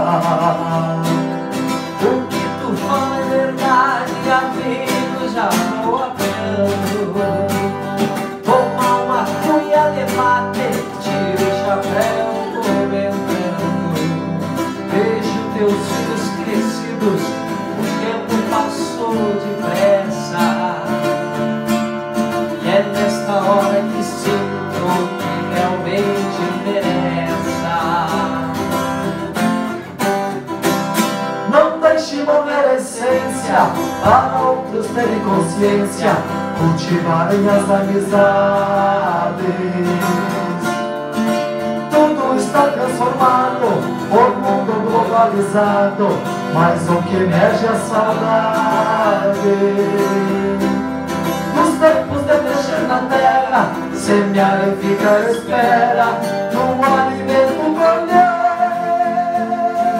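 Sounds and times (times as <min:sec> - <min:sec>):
men singing folk song: 0:00.0 - 0:21.4, 0:22.4 - 0:29.0, 0:31.5 - 0:40.8, 0:41.8 - 0:59.9
acoustic guitars strummed: 0:00.0 - 0:59.9.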